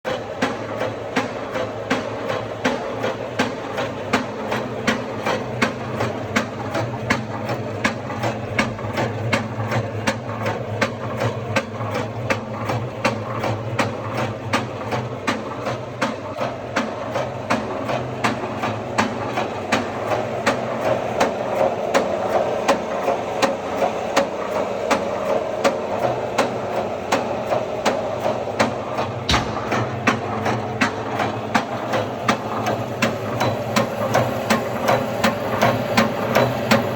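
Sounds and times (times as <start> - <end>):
machine humming with sharp clacks: 0.1 - 36.9.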